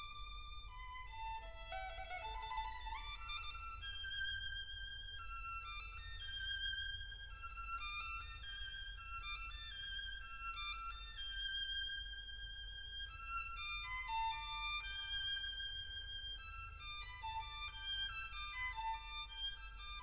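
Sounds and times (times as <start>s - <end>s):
slow violin melody: 0.0s - 20.0s.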